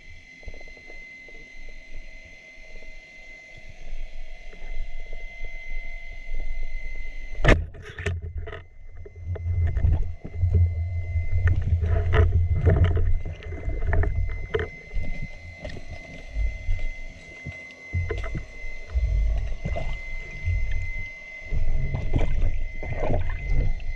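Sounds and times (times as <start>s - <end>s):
low rumble of moving water: 0.0s - 23.9s.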